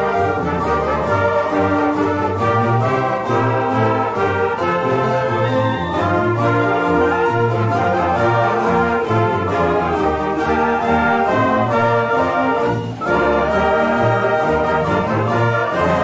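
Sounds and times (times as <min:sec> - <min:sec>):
drumline beat: 0:00.0 - 0:16.0
marching band brass: 0:00.0 - 0:16.0.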